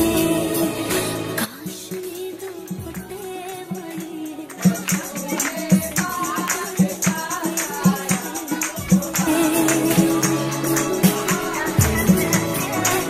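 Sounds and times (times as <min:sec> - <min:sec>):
women singing in chorus: 0:00.0 - 0:13.0
hands clapping: 0:00.9 - 0:13.0
hand drum beating: 0:01.9 - 0:13.0
tambourine jingling: 0:02.1 - 0:13.0.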